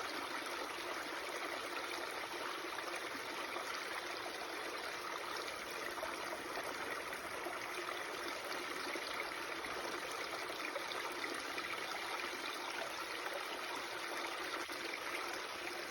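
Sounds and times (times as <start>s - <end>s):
stream water running: 0.0s - 15.9s.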